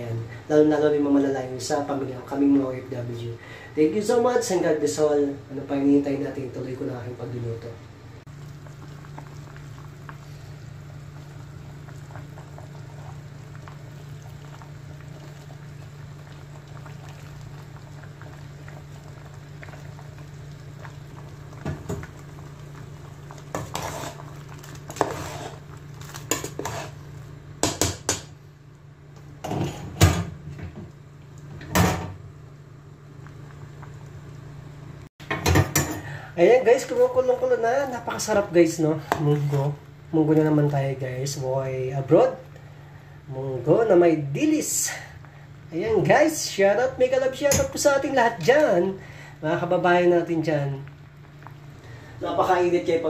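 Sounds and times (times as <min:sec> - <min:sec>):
soup bubbling at a boil: 0:08.2 - 0:35.1, 0:35.7 - 0:53.0.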